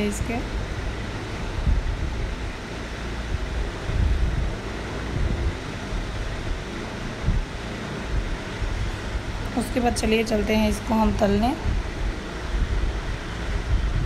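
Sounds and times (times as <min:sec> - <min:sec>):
steady rushing noise: 0:00.0 - 0:14.0
uneven low rumble: 0:00.0 - 0:14.0.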